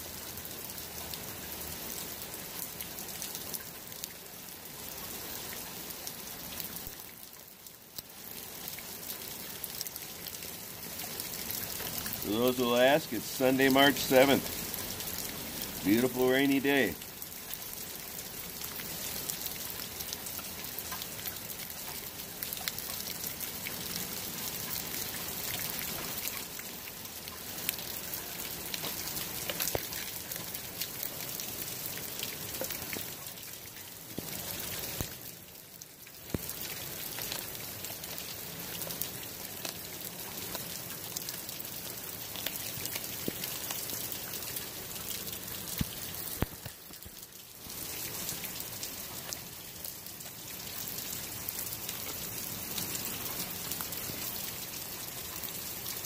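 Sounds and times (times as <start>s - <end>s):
steady rain falling: 0.0s - 56.0s
raindrop ticks: 0.6s - 4.3s, 5.4s - 56.0s.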